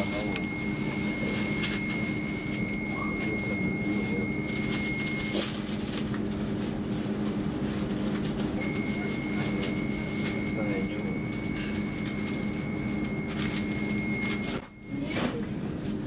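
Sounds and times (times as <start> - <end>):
thin high whine: 0.0 - 7.2, 8.6 - 15.4.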